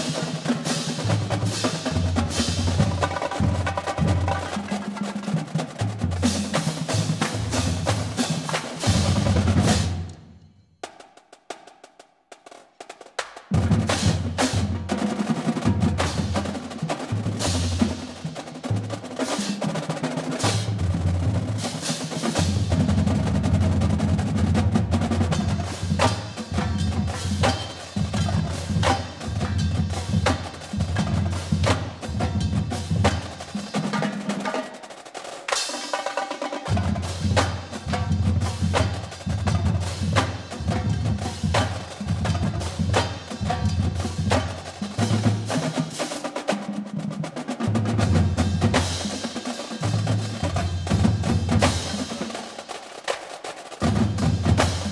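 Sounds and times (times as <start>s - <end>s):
snare drums rapid strokes: 0.0s - 10.2s, 10.8s - 54.9s
pitched marching bass drums: 0.0s - 54.9s.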